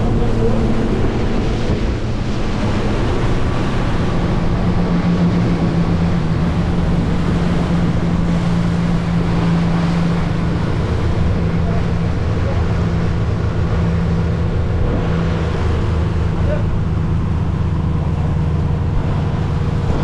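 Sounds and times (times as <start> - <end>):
motorboat engine drone: 0.0 - 20.0
water rushing along hull: 0.0 - 20.0
wind buffeting microphone: 0.0 - 20.0.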